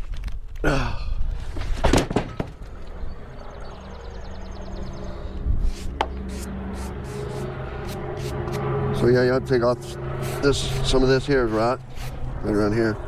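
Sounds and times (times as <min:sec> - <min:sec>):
engine idling hum: 0:00.9 - 0:13.0.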